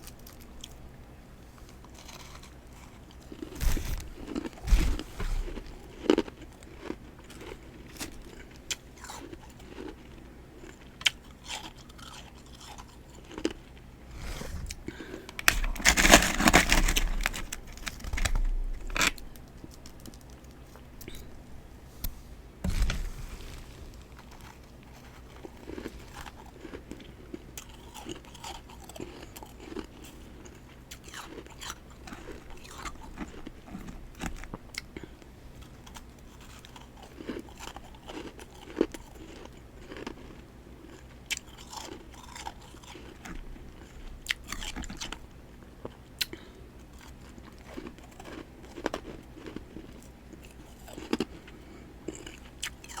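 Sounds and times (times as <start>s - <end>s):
chewing and crunching frost: 0.0s - 53.0s.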